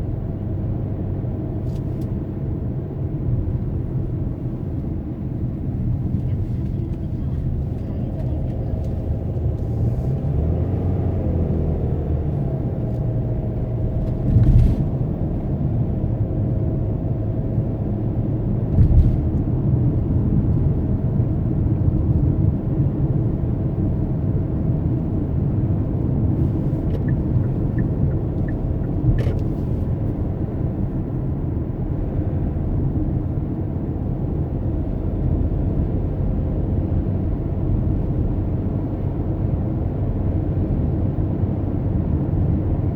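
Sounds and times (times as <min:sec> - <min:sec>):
car driving rumble: 0:00.0 - 0:42.9.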